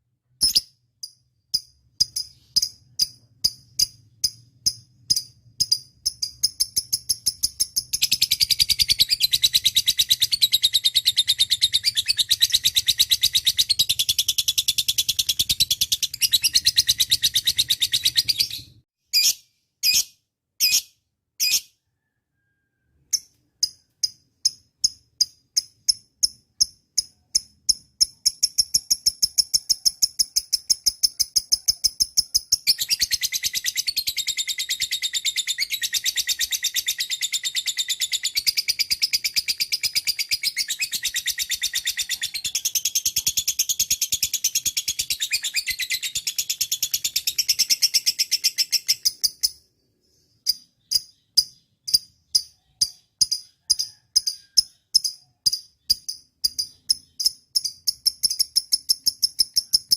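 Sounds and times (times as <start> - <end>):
bird chirping rapidly: 0.3 - 22.1, 23.1 - 59.9.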